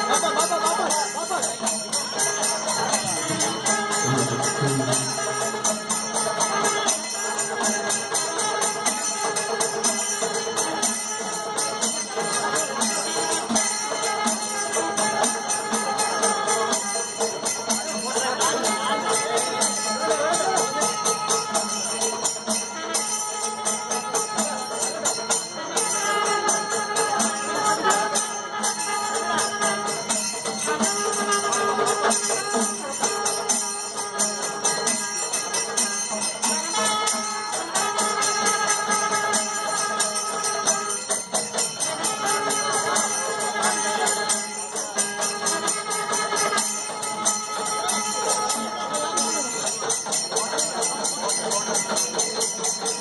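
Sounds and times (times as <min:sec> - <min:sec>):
music with jingling percussion: 0:00.0 - 0:53.0.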